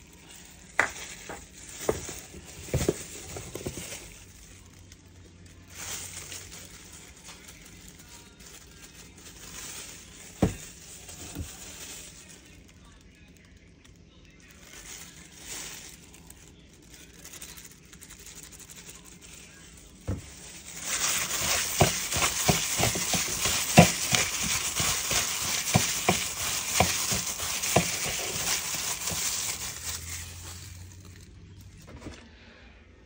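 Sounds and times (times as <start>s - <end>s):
plastic bag crinkling: 0.0s - 31.9s.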